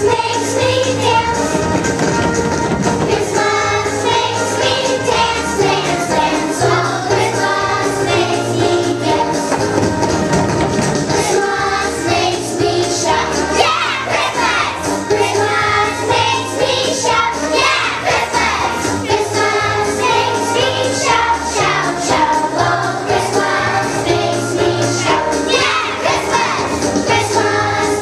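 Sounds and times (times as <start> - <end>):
children singing together: 0.0 - 2.0, 3.0 - 10.0, 11.0 - 28.0
instrumental accompaniment: 0.0 - 28.0.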